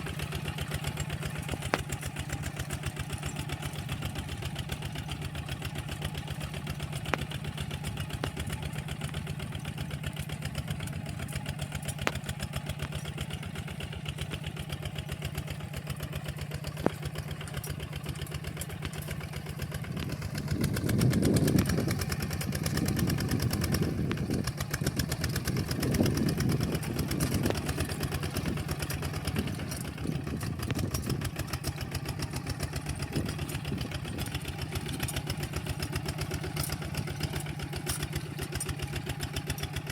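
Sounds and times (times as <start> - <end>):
walking tractor engine running: 0.0 - 39.9.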